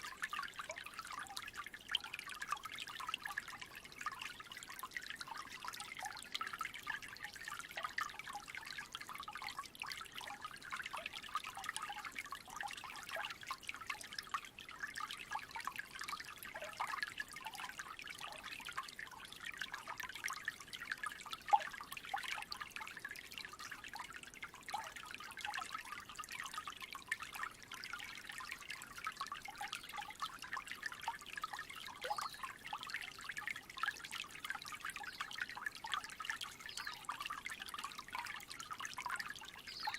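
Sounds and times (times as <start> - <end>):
creek trickling: 0.0 - 39.9.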